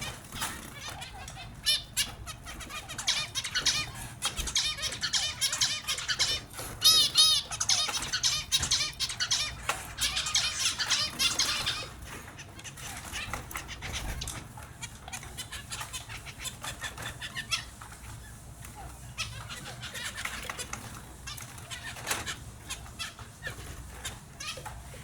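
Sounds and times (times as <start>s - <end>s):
finches chirping: 0.0s - 25.0s.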